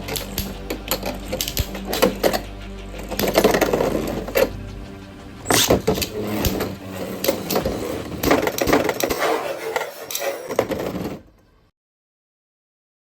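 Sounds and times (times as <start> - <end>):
spinning tops clattering: 0.0 - 10.7.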